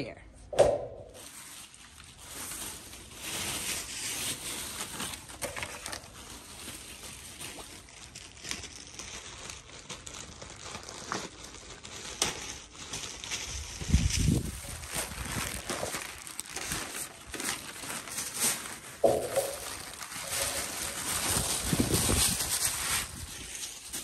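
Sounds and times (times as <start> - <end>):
packaging crinkling: 1.1 - 24.0.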